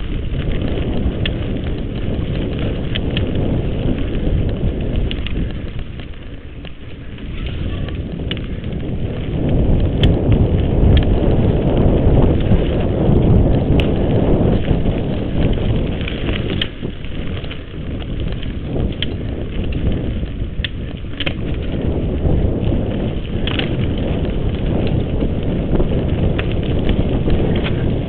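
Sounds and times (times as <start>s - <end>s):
bike clicks and rattles: 0.0s - 28.0s
tyres rumbling on dirt: 0.0s - 28.0s
wind on microphone: 0.0s - 28.0s.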